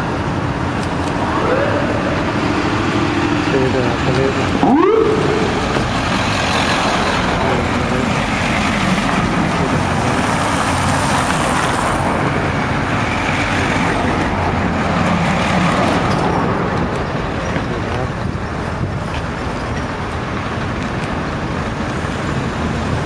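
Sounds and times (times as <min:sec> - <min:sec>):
vans driving past: 0:00.0 - 0:23.0.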